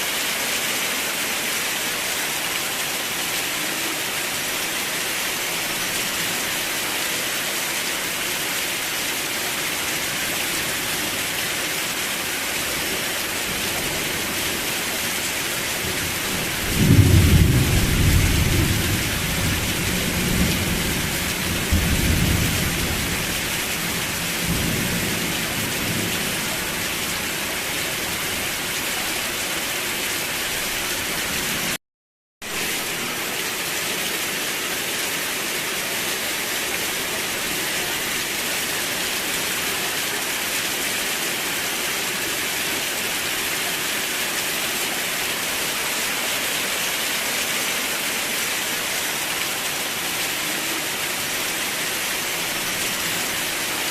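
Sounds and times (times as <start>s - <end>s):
steady rain hiss: 0.0s - 31.8s, 32.5s - 53.9s.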